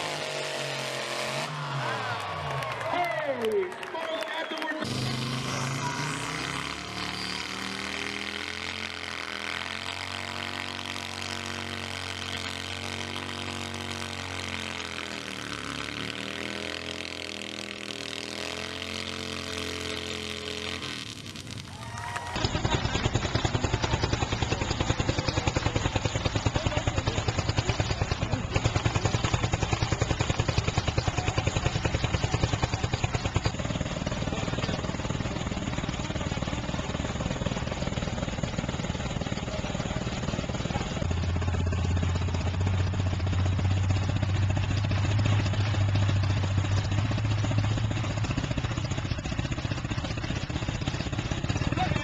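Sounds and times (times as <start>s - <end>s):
chainsaw engine running: 0.0s - 52.0s.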